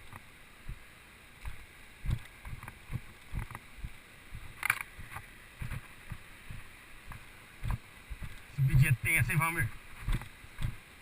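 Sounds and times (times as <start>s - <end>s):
footsteps on a trail: 1.4s - 10.8s.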